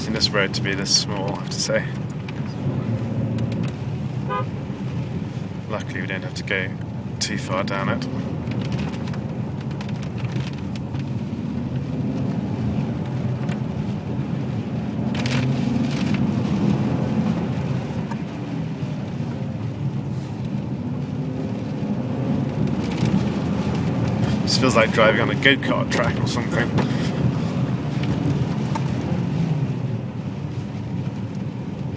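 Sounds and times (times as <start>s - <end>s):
crackles and knocks from road: 0.0s - 5.7s, 8.0s - 31.9s
car engine at low revs: 0.0s - 31.9s
tyre noise on wet road: 0.0s - 31.9s.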